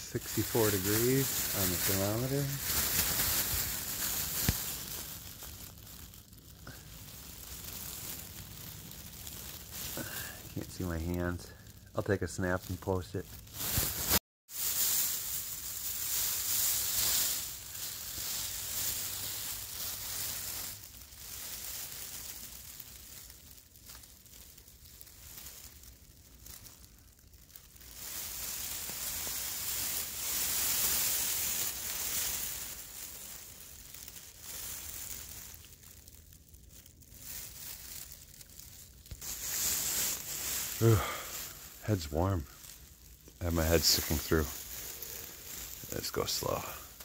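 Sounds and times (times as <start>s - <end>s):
plastic sheeting rustling: 0.0s - 47.0s.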